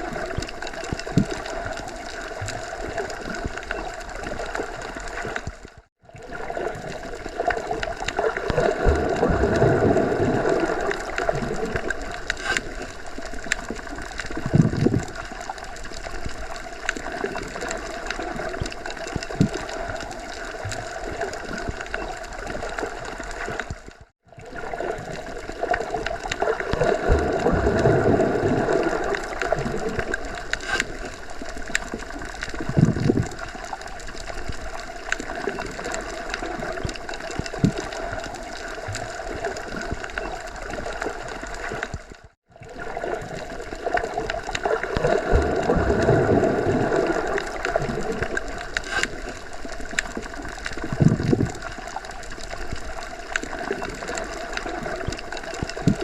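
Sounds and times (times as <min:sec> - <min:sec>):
small underwater clicks: 0:00.0 - 0:56.0
underwater rushing and gurgling: 0:00.0 - 0:56.0.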